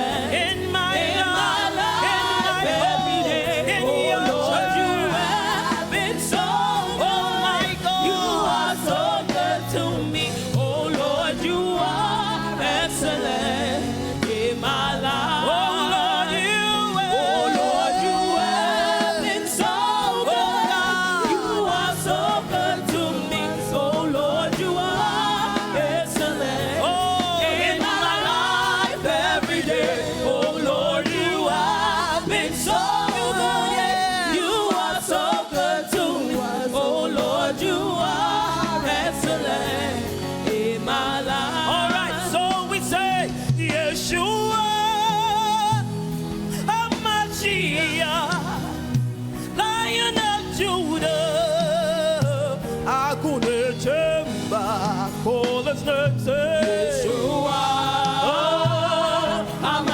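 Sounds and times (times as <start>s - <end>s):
gospel singing with music: 0.0s - 59.9s.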